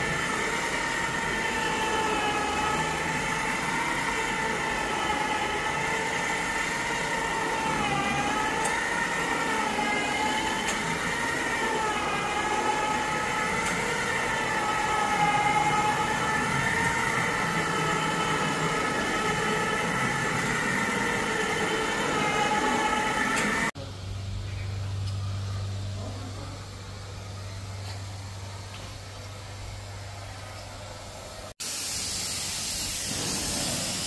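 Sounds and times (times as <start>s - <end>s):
carpet extraction machine whine: 0.0s - 31.8s.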